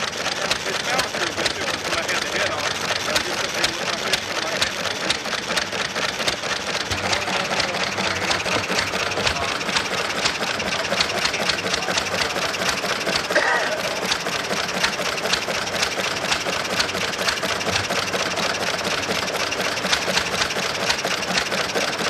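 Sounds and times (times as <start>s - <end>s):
stationary engine ticking clatter: 0.0s - 22.0s.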